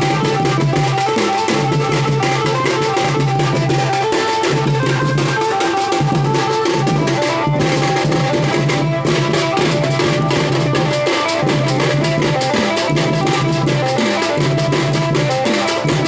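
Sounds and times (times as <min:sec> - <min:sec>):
drum band playing fast beat: 0:00.0 - 0:16.0
stepwise melody: 0:00.0 - 0:16.0.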